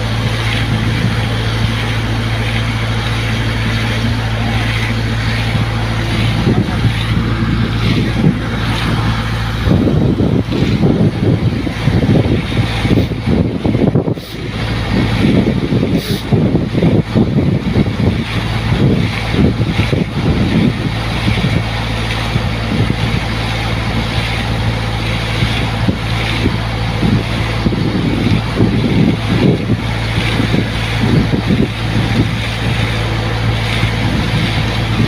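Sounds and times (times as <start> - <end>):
air compressor engine hum: 0.0 - 35.0
surging rushes of air: 0.0 - 35.0.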